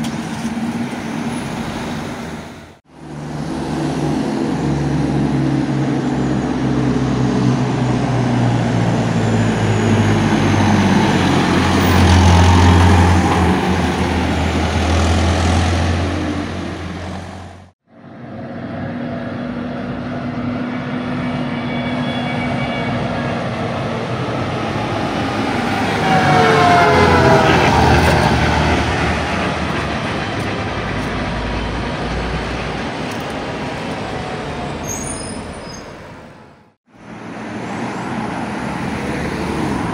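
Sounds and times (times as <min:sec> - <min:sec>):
tractor diesel engines passing: 0:00.0 - 0:39.9.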